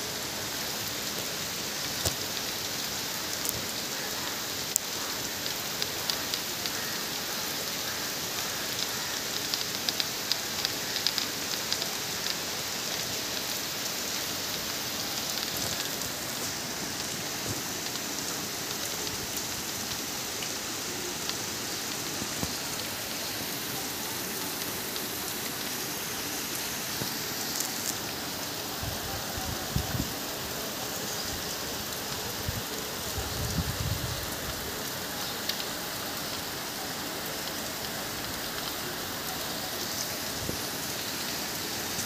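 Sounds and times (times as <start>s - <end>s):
rain on tiled roofs and trees: 0.0s - 42.0s.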